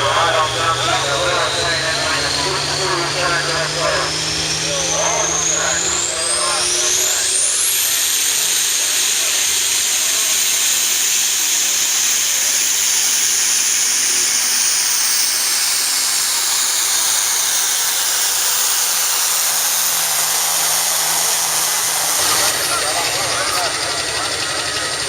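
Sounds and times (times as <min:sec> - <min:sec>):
diesel engine running hard: 0:00.0 - 0:25.0
high-pitched turbocharger whistle: 0:00.0 - 0:25.0.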